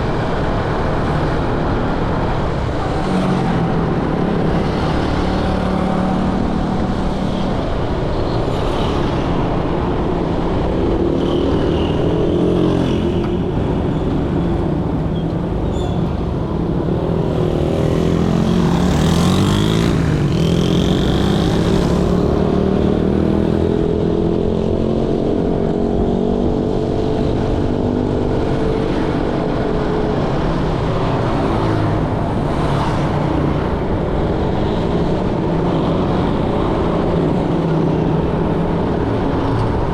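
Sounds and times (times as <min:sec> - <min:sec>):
motorbike engines passing: 0:00.0 - 0:39.9
road and wind rumble: 0:00.0 - 0:39.9.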